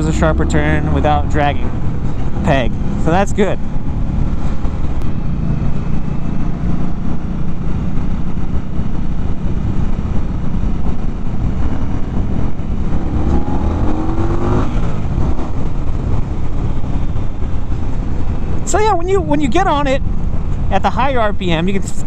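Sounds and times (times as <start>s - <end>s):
motorcycle engine revving: 0.0s - 18.7s
wind rush on microphone: 0.0s - 20.8s.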